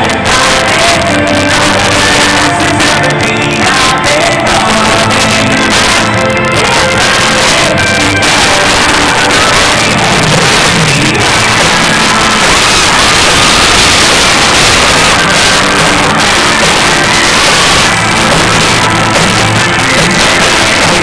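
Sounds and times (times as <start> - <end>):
lead vocal singing: 0.0 - 21.0
live pop-rock band: 0.0 - 21.0.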